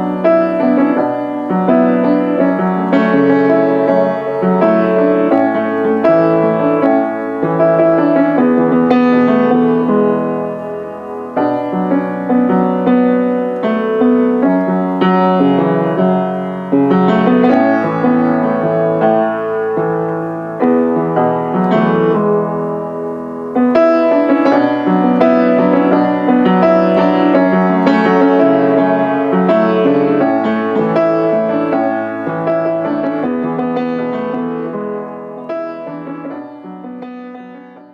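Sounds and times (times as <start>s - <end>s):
gentle piano music: 0.0s - 37.9s.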